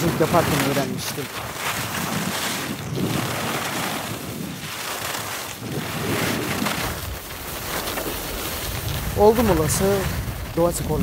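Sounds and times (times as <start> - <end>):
skis scraping over snow: 0.0 - 11.0
wind on microphone: 0.0 - 11.0.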